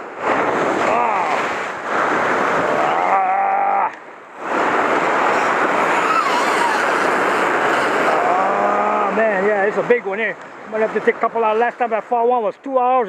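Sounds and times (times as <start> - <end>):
ocean surf washing: 0.0 - 13.0.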